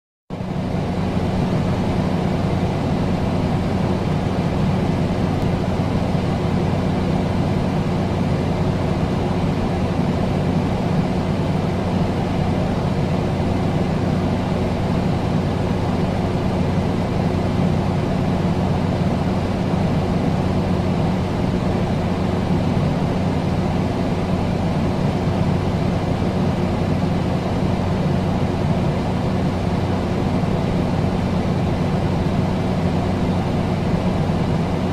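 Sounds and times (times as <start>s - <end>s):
air conditioner running: 0.4s - 34.9s.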